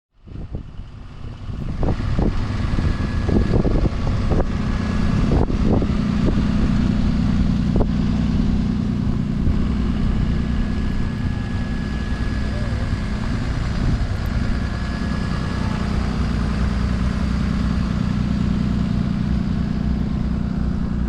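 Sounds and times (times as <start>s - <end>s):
traffic engine rumble: 0.1s - 21.0s.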